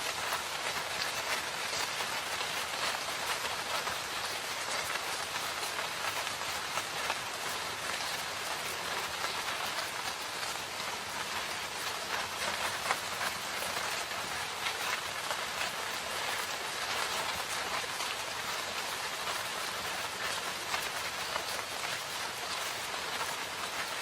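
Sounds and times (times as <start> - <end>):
rain falling in a forest: 0.0 - 24.0
raindrops pattering: 0.0 - 24.0.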